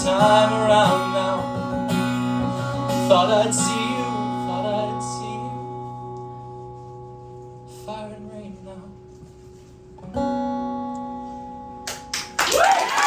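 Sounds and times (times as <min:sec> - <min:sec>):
acoustic guitar strumming: 0:00.0 - 0:12.4.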